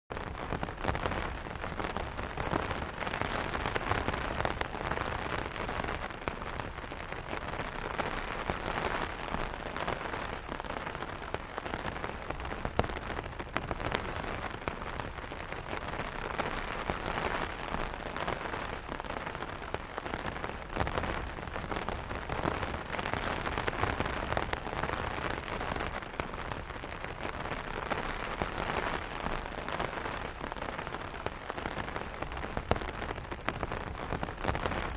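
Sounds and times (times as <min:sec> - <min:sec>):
rain drumming on an umbrella: 0:00.1 - 0:34.9.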